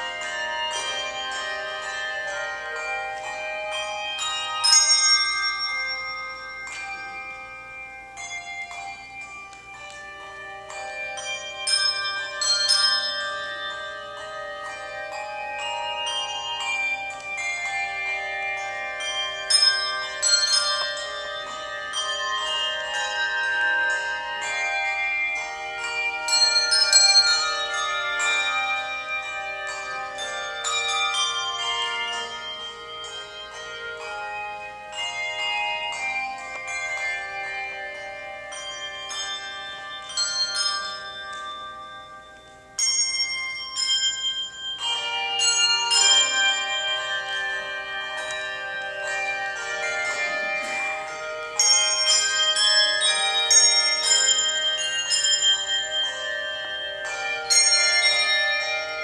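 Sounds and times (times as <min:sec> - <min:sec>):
handbells ringing: 0:00.0 - 0:59.0.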